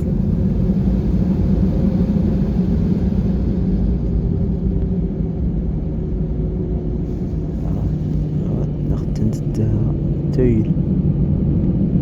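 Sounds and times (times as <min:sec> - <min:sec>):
airliner engines running: 0:00.0 - 0:12.0.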